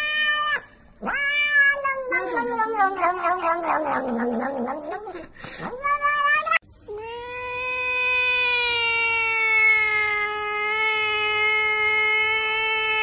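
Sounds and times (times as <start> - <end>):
cat meowing: 0.0 - 13.0
cat yowling: 0.0 - 13.0.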